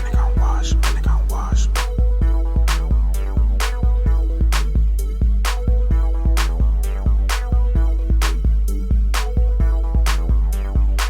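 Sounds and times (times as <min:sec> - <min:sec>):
deep booming bass: 0:00.0 - 0:11.0
electronic hip hop beat: 0:00.0 - 0:11.0.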